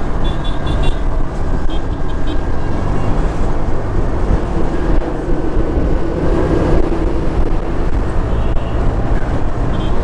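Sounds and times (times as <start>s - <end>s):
wind rumbling on microphone: 1.0s - 10.0s.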